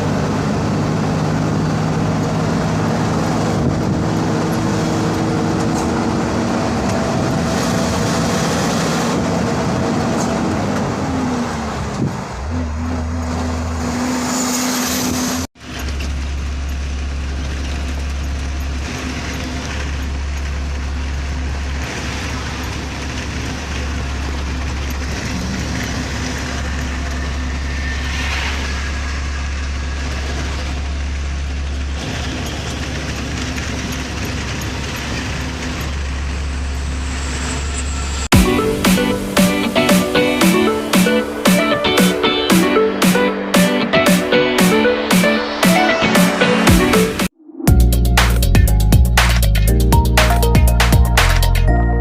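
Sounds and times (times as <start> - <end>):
diesel truck engine drone: 0.0 - 52.0
road noise: 0.0 - 52.0.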